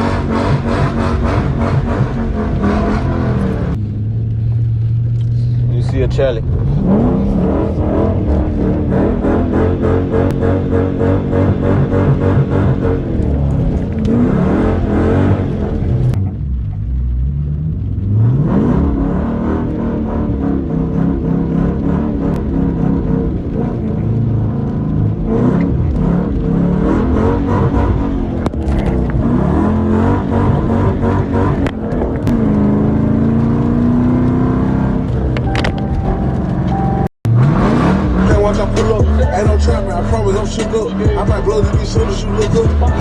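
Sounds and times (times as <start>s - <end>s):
car engine revving hard: 0.0s - 3.8s, 5.9s - 16.4s, 17.5s - 43.0s.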